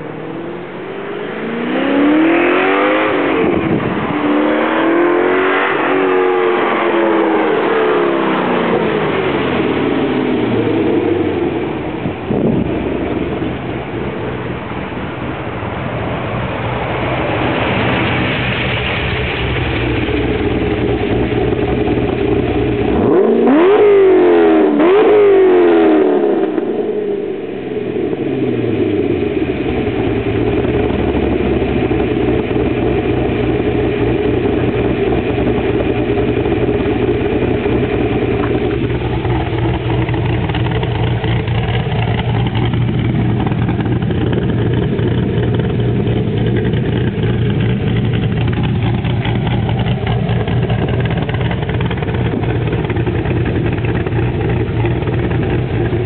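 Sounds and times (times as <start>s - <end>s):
car engine revving and idling: 0.0s - 56.0s.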